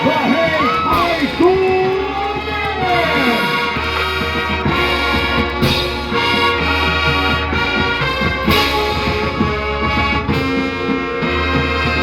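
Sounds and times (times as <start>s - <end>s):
brass held chords: 0.0s - 12.0s
marching band playing: 0.0s - 12.0s.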